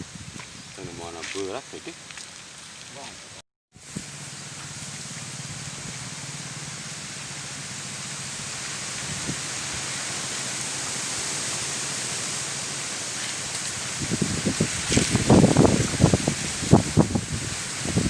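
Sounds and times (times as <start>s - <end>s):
wind through bamboo: 0.0s - 18.0s.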